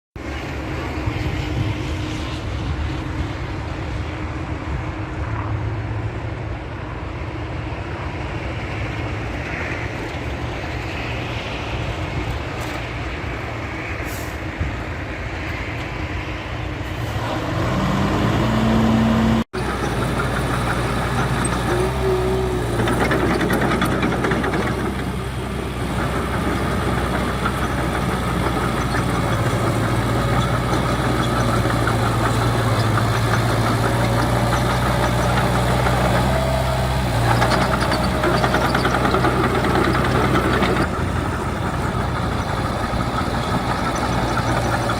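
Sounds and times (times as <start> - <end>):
heavy diesel engines running: 0.2 - 44.9.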